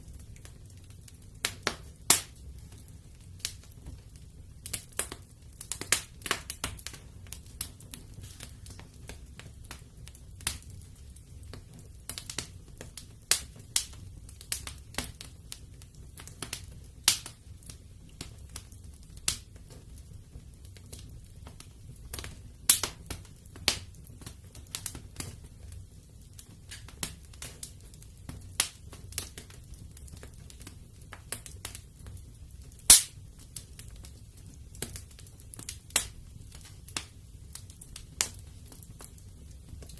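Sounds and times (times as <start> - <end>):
low rumble of flames: 0.0 - 39.9
wood fire crackling: 0.0 - 39.9
sharp pops of fire: 0.1 - 39.9.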